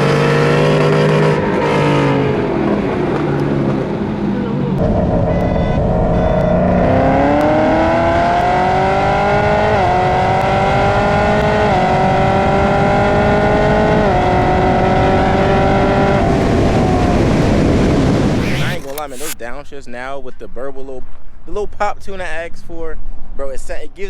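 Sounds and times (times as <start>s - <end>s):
car engine accelerating through gears: 0.0s - 19.4s.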